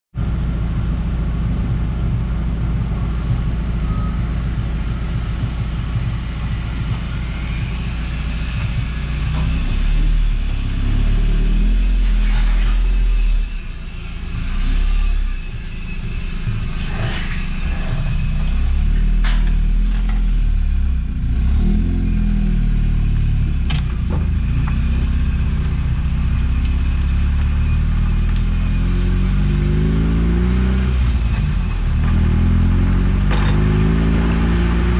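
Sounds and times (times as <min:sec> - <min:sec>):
car engine running: 0:00.1 - 0:34.9
road noise: 0:00.1 - 0:34.9.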